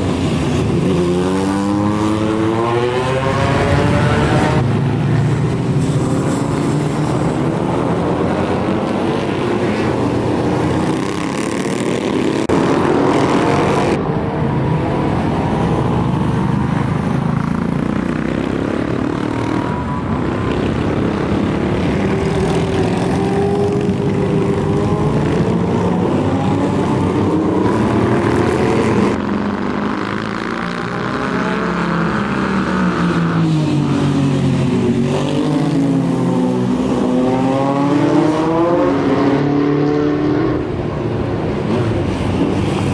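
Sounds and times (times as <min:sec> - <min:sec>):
motorcycles riding past: 0:00.0 - 0:42.9.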